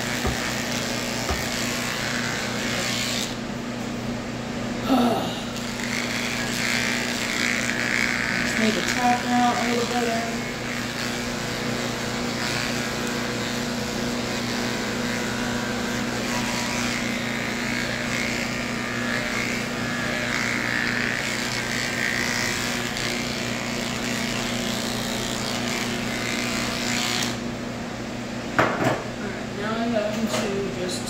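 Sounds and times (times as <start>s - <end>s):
electric clippers buzzing: 0.0s - 4.2s, 4.8s - 27.6s.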